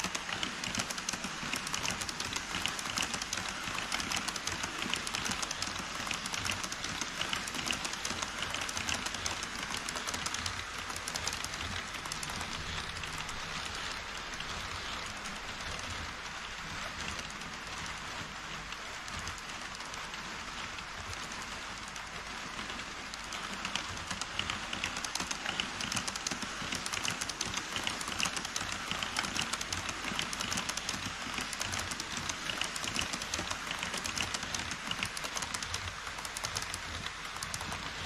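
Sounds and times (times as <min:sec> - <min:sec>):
model train wagons rolling: 0:00.0 - 0:38.0
model train wheels clicking on track: 0:00.0 - 0:38.0.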